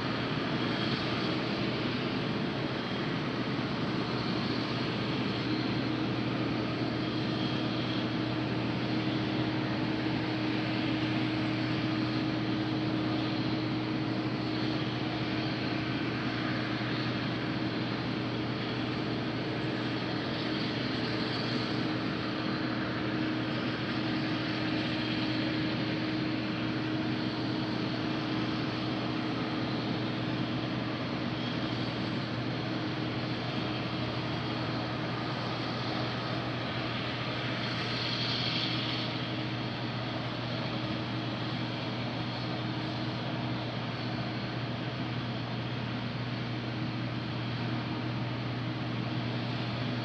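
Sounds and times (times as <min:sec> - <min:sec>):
combine harvester running: 0:00.1 - 0:50.0.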